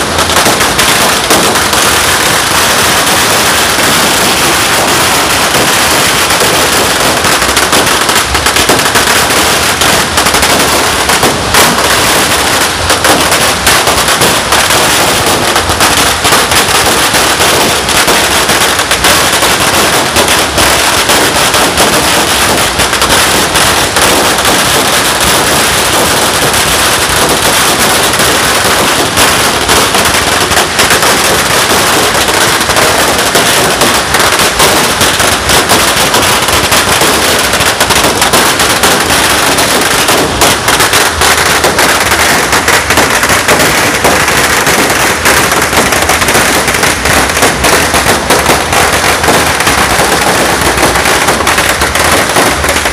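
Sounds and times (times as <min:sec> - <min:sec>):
firecrackers crackling: 0:00.0 - 0:52.9.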